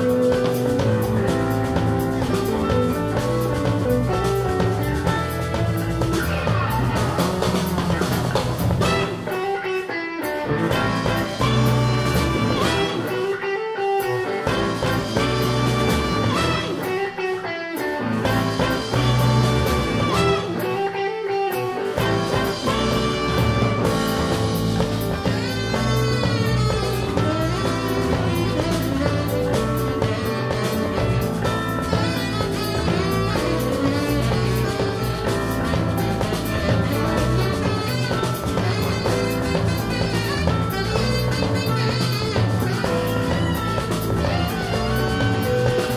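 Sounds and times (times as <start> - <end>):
electric bass: 0.0 - 9.6, 10.4 - 13.4, 14.2 - 17.1, 17.9 - 20.9, 21.8 - 45.9
drum kit beat: 0.0 - 45.9
electric guitar: 0.0 - 45.9
jazz band playing: 0.0 - 45.9.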